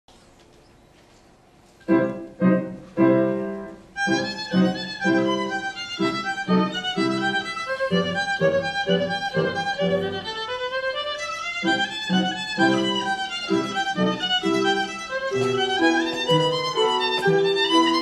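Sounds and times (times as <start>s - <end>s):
piano chords: 1.8s - 18.0s
violin melody: 2.0s - 18.0s.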